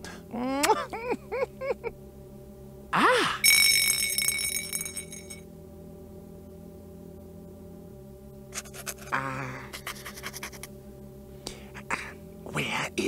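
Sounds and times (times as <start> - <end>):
low held musical drone: 0.0 - 13.0.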